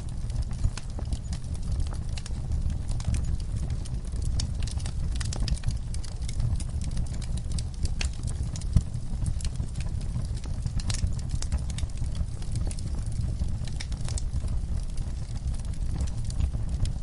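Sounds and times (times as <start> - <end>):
low rumble of flame: 0.0 - 17.0
wood logs crackling and popping: 0.0 - 17.0.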